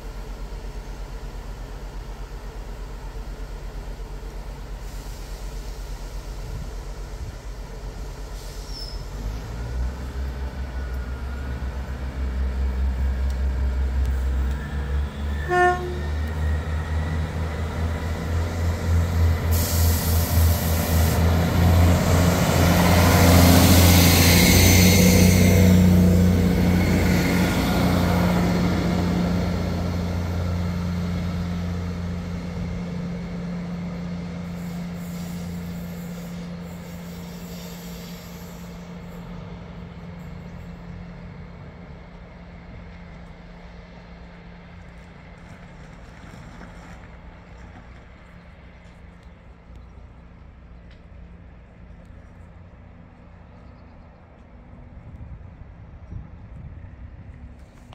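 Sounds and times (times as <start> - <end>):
diesel train engine throbbing: 0.0 - 57.9.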